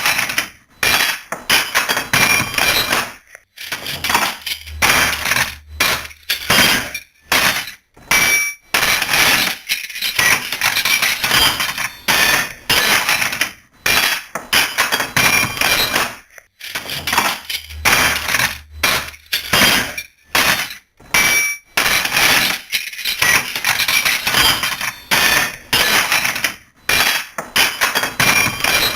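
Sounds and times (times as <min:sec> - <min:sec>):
wrenches clattering into toolbox: 0:00.0 - 0:28.9.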